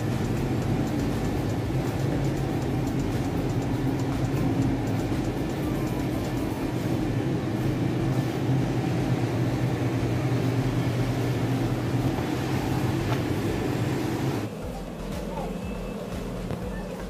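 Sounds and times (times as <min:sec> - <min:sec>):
low mechanical hum of machinery: 0:00.0 - 0:17.0.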